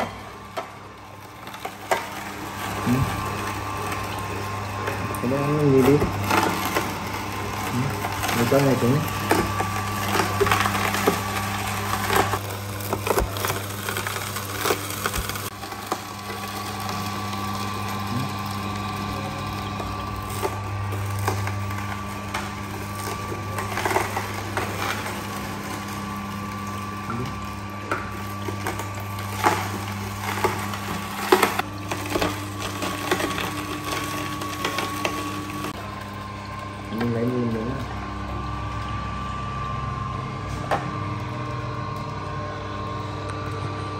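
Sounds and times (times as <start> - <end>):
carrots cracking and crunching: 0.0 - 36.0
juicer motor humming: 0.0 - 43.9.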